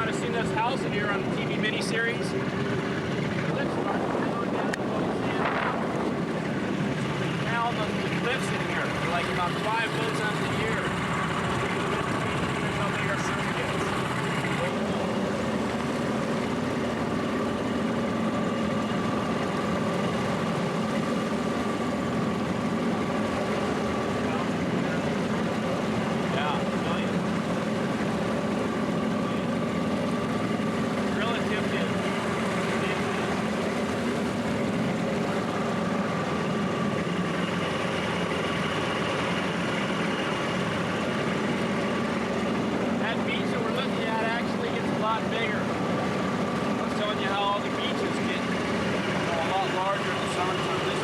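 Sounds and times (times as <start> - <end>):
outboard motor running: 0.0 - 51.0.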